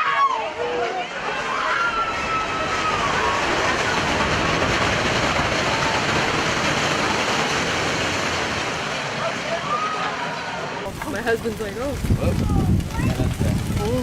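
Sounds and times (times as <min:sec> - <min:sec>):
landslide rushing: 0:00.0 - 0:14.0.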